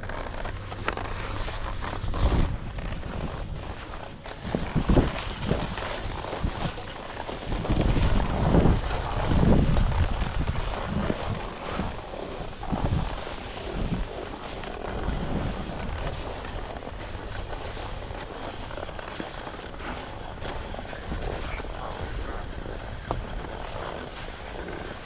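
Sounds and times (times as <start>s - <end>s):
ski edges scraping on snow: 0.0s - 25.0s
wind buffeting microphone: 0.0s - 25.0s.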